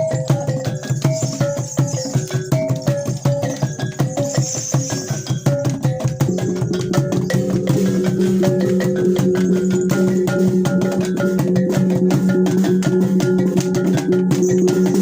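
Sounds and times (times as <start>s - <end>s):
fast struck notes: 0.0s - 15.0s.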